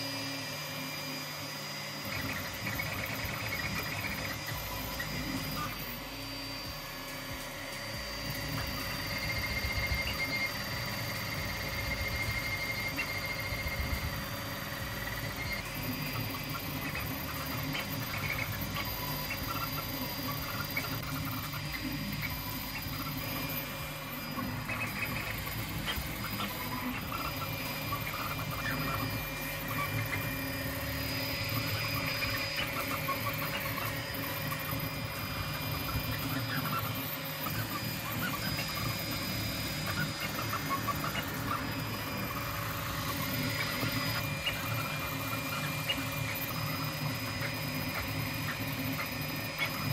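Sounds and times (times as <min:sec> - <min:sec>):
steady high tones: 0:00.0 - 0:49.9
stepper motors chirping: 0:00.0 - 0:49.9.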